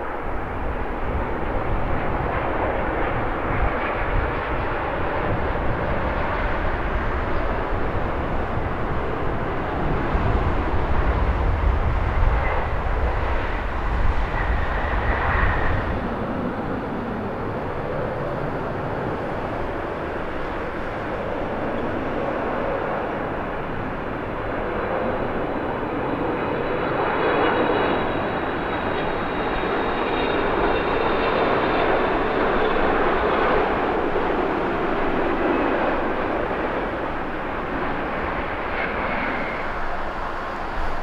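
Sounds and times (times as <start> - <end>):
jet airliner landing: 0.0 - 41.0
jet drone on approach: 0.0 - 41.0.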